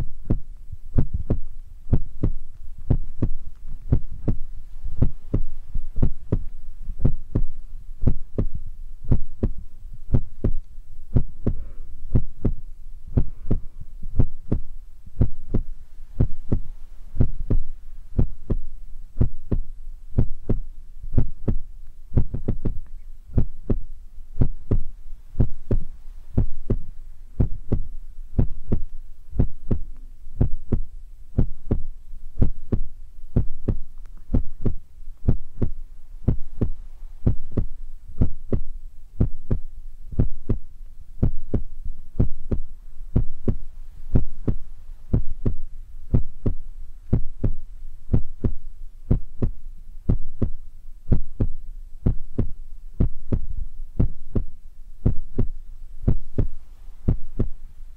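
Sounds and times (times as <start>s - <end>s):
fingers tapping microphone: 0.0s - 57.6s.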